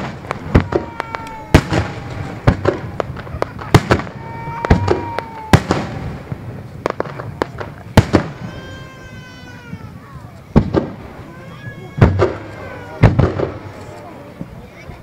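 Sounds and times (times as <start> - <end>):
fireworks shells bursting: 0.0 - 14.1.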